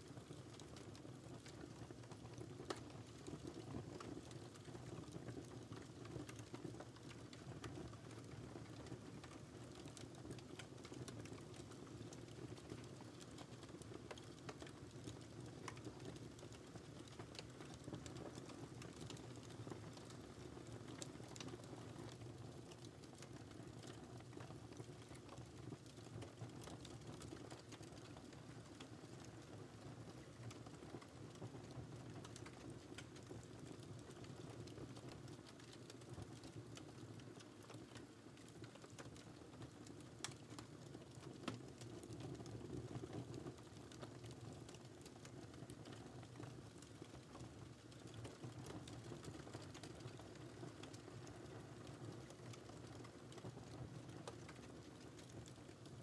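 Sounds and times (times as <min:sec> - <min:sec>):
faint wood fire crackling: 0:00.0 - 0:56.0.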